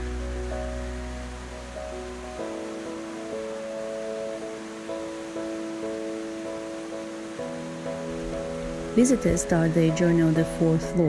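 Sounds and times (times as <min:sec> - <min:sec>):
soft held chords: 0:00.0 - 0:11.0
steady hiss: 0:00.0 - 0:11.0.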